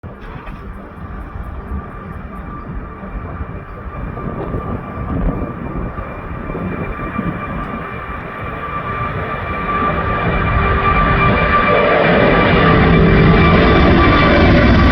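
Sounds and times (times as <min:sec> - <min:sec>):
jet departing with rumble and whine: 0:00.0 - 0:14.9.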